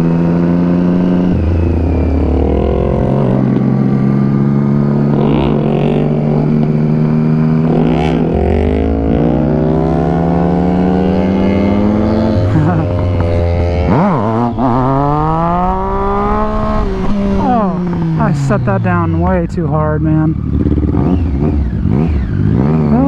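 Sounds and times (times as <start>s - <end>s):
motorcycle engines running: 0.0s - 23.0s.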